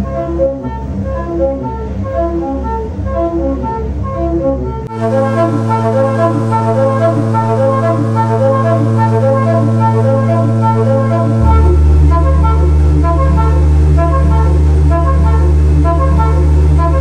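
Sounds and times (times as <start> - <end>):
church organ playing: 3.1 - 17.0.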